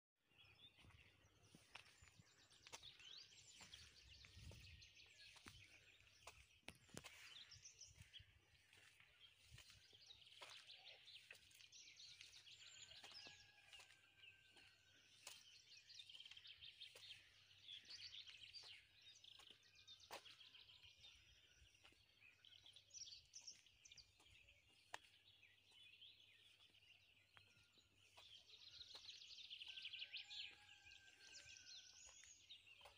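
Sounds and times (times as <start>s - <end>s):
songbirds singing: 0.2s - 32.9s.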